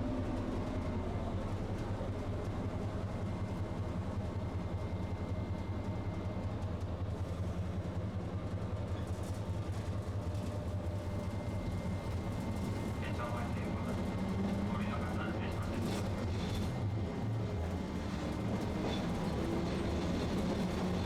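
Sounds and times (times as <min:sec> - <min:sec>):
streetcar hum and rumble: 0:00.0 - 0:21.0.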